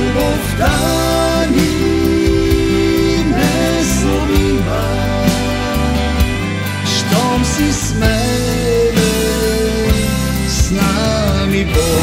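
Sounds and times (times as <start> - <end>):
electric guitar lead: 0.0 - 12.0
rock ballad with drums and bass: 0.0 - 12.0.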